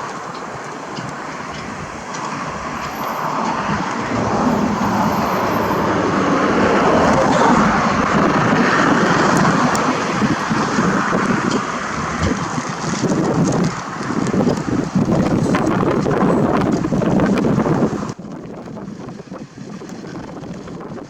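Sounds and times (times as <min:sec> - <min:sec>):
car engine and tyres: 0:00.0 - 0:21.0.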